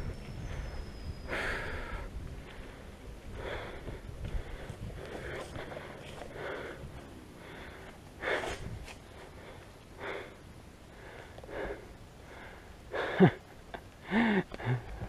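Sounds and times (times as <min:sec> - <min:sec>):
person breathing hard: 0:01.2 - 0:13.4, 0:14.0 - 0:15.0.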